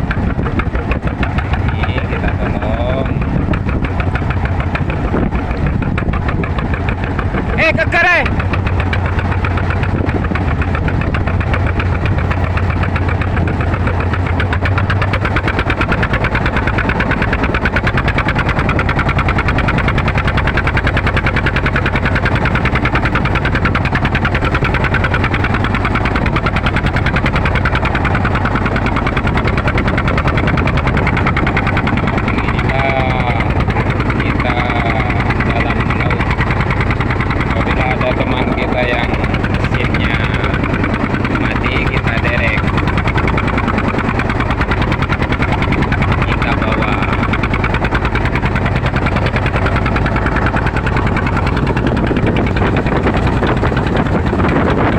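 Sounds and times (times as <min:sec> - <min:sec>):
boat engine chugging: 0:00.0 - 0:54.9.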